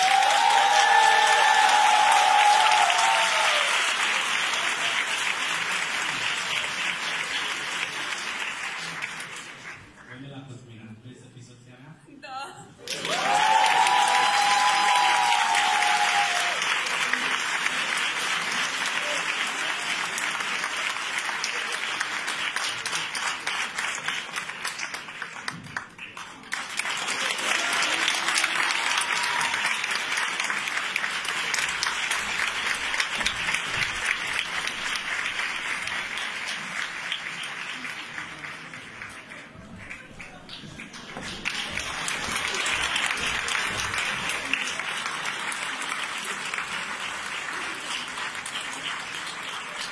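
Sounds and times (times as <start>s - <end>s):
audience applauding: 0.0s - 10.3s, 12.8s - 49.9s.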